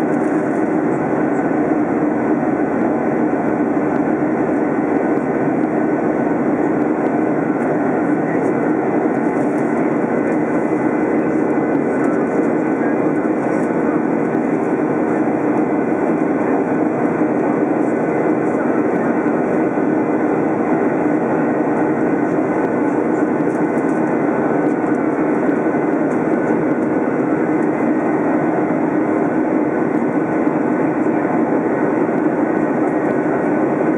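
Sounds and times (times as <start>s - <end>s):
faint steady hums: 0.0s - 33.9s
jet engine and airflow rush: 0.0s - 33.9s.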